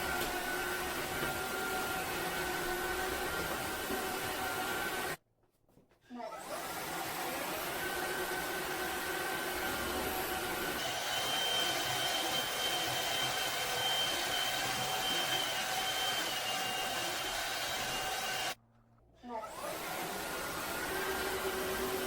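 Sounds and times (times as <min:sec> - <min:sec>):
vacuum mop motor whine: 0:00.0 - 0:05.2, 0:06.4 - 0:18.6, 0:19.4 - 0:22.0.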